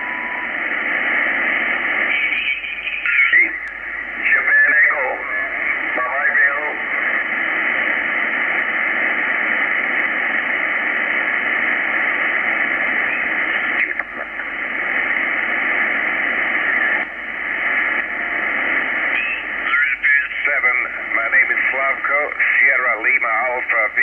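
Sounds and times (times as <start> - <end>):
shortwave radio hiss: 0.0 - 24.0.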